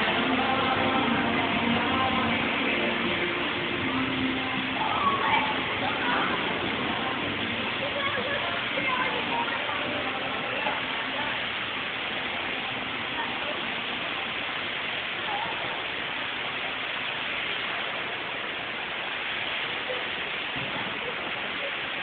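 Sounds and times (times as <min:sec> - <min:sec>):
faint voices: 0:00.0 - 0:22.0
fountain water jets splashing: 0:00.0 - 0:22.0.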